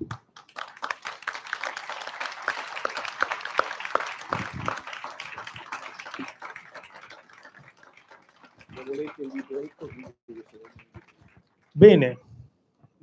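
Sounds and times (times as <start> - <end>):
applause: 0.0 - 11.8.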